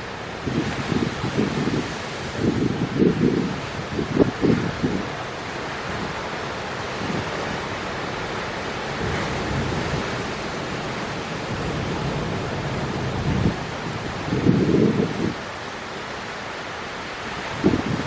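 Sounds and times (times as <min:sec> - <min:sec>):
wind buffeting microphone: 0:00.0 - 0:07.8, 0:08.9 - 0:15.5, 0:17.2 - 0:18.0
waves breaking on rocky shore: 0:00.0 - 0:18.0.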